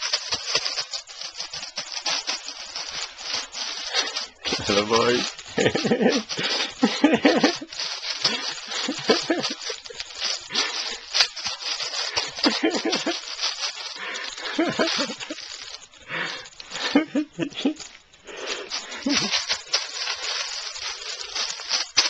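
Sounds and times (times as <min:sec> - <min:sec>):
plastic bag crackling: 0:00.0 - 0:22.0.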